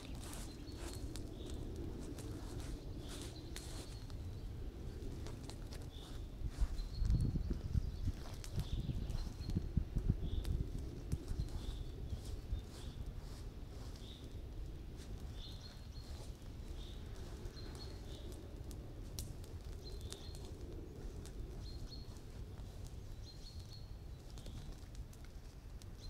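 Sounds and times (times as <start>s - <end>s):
bird chirping: 0.0s - 4.5s, 5.7s - 10.6s, 11.2s - 14.4s, 15.0s - 18.6s, 19.7s - 24.8s
bonfire crackling: 0.0s - 26.0s.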